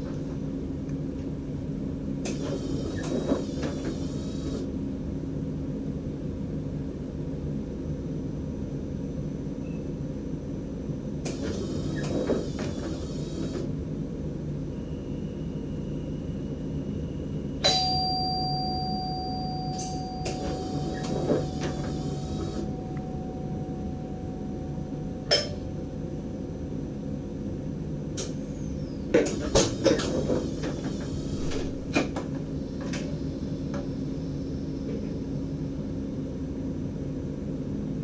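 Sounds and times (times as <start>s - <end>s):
train running low rumble: 0.0s - 38.0s.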